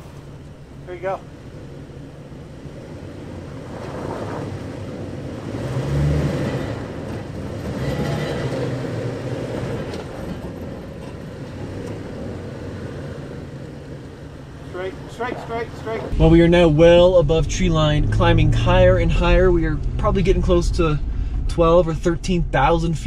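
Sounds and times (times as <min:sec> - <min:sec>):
engine running under load: 0:00.0 - 0:23.0.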